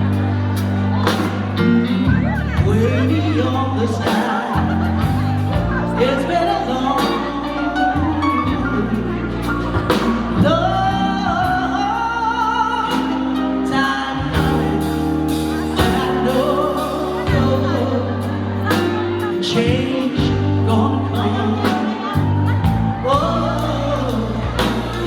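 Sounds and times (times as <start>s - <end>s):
backing music with bass and drums: 0.0s - 25.0s
woman singing: 1.6s - 25.0s.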